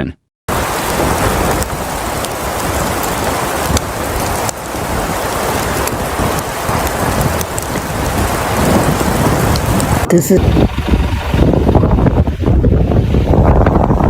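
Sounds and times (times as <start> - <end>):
wind and blowing snow: 0.5 - 14.0.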